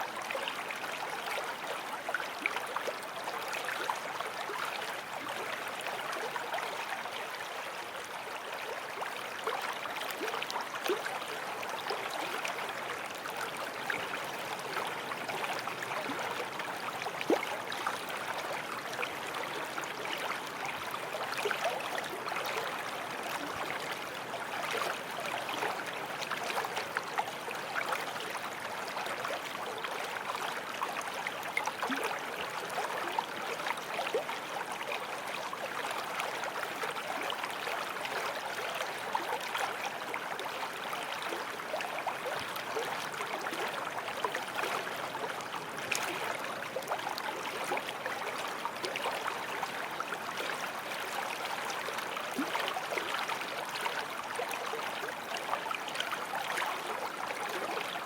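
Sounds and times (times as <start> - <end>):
shallow stream flowing over stones: 0.0 - 58.0.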